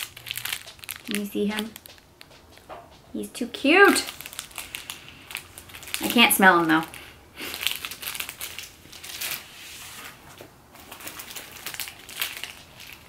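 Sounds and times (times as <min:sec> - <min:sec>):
plastic packaging crinkling: 0:00.0 - 0:02.7, 0:03.4 - 0:13.0.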